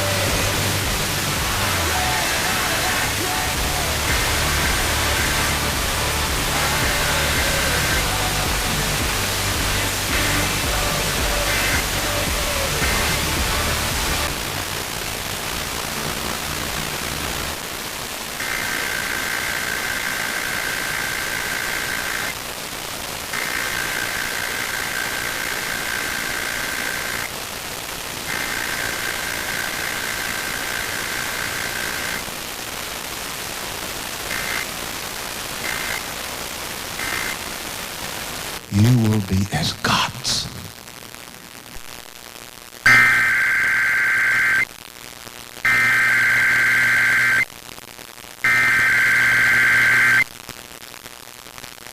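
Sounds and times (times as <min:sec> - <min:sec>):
radio static hiss: 0:00.0 - 0:51.9.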